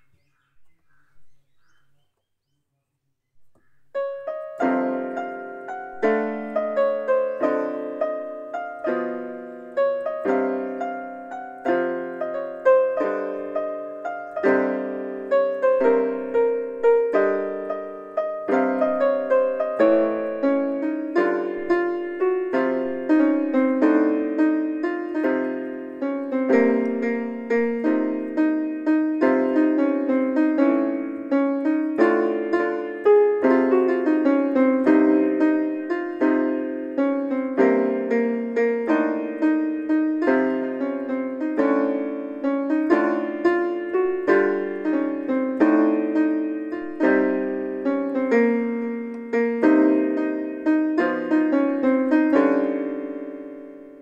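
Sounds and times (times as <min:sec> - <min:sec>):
electronic keyboard playing chords: 0:03.5 - 0:54.0.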